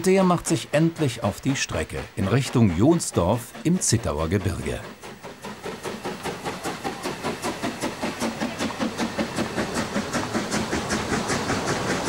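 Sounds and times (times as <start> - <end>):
hiss of steam: 0.0 - 12.0
steam locomotive chuffing: 0.0 - 12.0.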